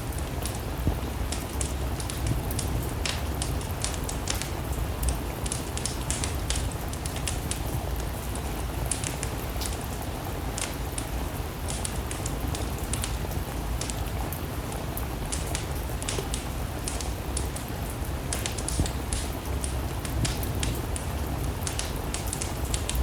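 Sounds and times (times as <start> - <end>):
steady rain hiss: 0.0 - 23.0
wood fire crackling: 0.0 - 23.0.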